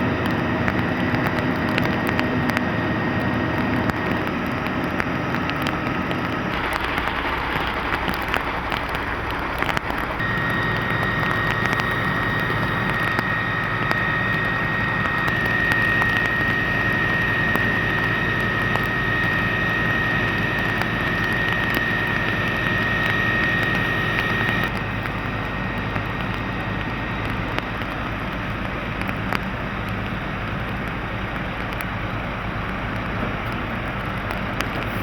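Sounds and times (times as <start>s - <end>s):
fire engine running: 0.0s - 35.0s
steady high whine: 0.0s - 35.0s.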